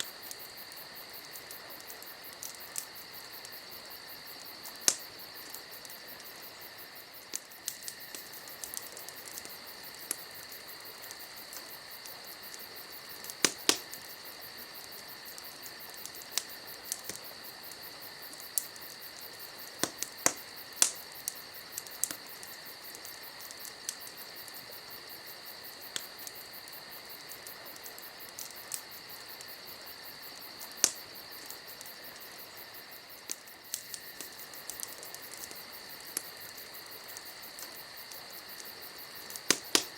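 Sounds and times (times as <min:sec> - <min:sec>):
campfire crackling: 0:00.0 - 0:39.9
insects chirring: 0:00.0 - 0:39.9.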